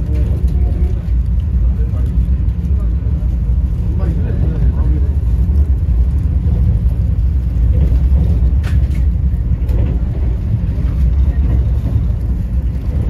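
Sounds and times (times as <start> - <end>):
train rumble inside coach: 0.0 - 13.0.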